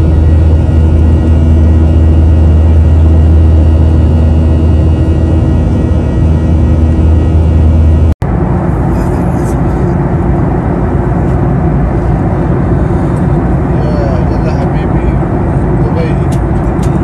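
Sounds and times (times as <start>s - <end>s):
airliner engine drone: 0.0s - 17.0s.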